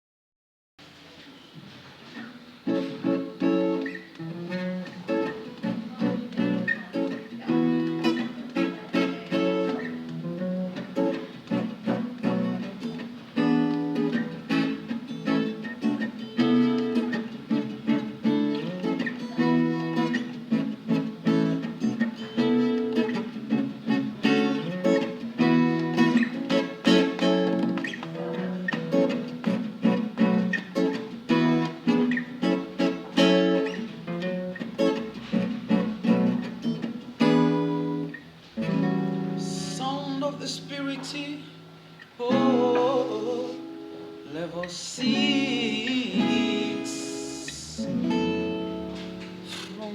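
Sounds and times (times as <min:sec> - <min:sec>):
guitar chords ringing: 0:02.5 - 0:49.9.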